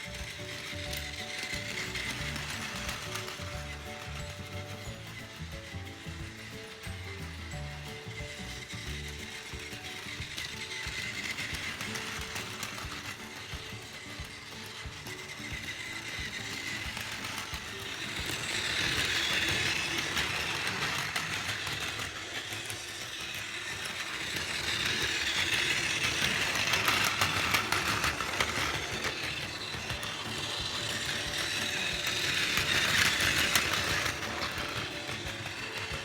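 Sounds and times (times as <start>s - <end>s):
toy train motor whine: 0.0s - 36.0s
wheels clicking on track: 0.0s - 36.0s.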